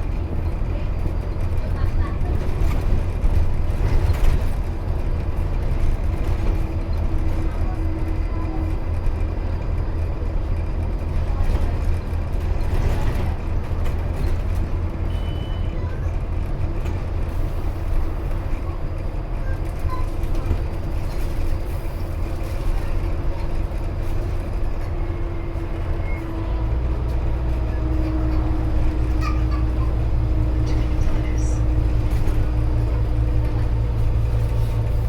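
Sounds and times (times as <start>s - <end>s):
bus diesel engine rumble: 0.0s - 35.0s.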